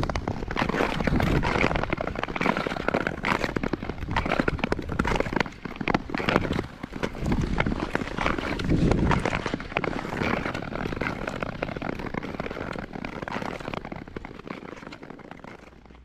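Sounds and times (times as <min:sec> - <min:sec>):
ice crackling: 0:00.0 - 0:16.0
skate blades scraping ice: 0:00.0 - 0:16.0.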